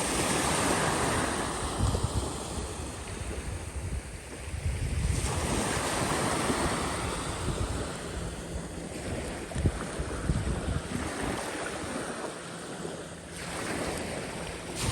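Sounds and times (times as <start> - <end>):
small waves washing on beach: 0.0 - 14.9
wind buffeting microphone: 0.0 - 14.9.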